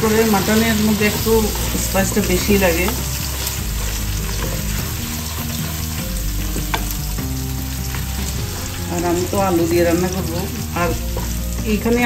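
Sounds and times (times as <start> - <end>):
onions sizzling in oil: 0.0 - 12.0
wooden spatula stirring: 0.0 - 12.0.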